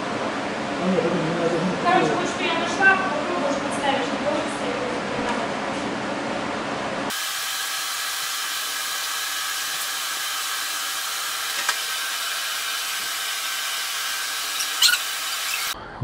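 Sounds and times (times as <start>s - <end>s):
electric fan running: 0.0s - 15.8s.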